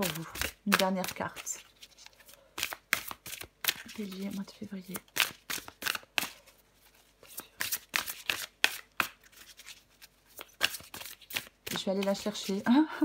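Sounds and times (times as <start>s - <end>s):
cards being shuffled: 0.0s - 12.7s.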